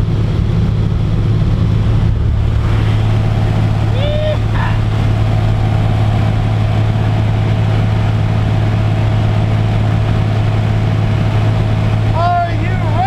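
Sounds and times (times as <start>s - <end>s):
light aircraft engine droning: 0.0s - 13.0s
wind rushing: 0.2s - 12.2s.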